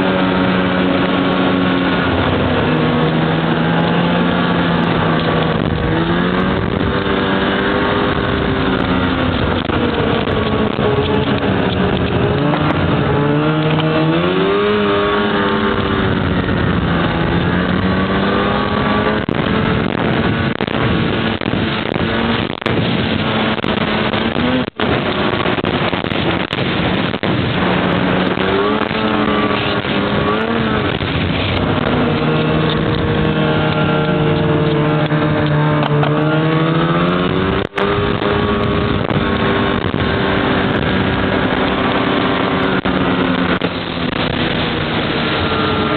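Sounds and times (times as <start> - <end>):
snowmobile engine running: 0.0 - 45.9
wind and track noise: 0.0 - 45.9.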